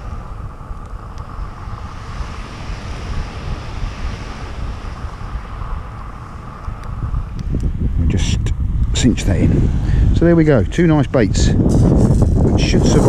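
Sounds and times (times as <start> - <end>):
surf on shingle beach: 0.0 - 13.0
wind buffeting microphone: 0.0 - 13.0.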